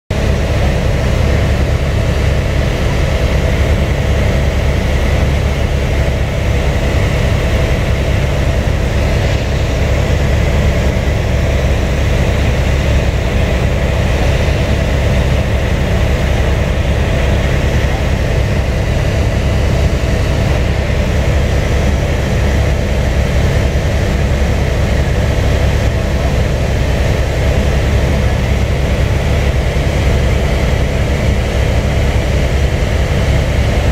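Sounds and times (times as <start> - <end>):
helicopter cabin drone: 0.1 - 33.9.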